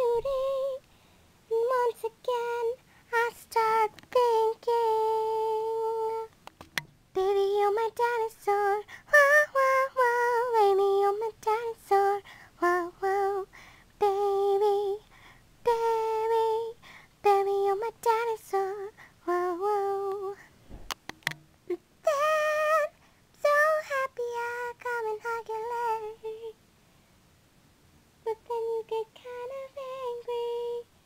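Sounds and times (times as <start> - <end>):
girl singing alone: 0.0 - 6.4, 7.1 - 20.6, 21.7 - 26.6, 28.2 - 31.0.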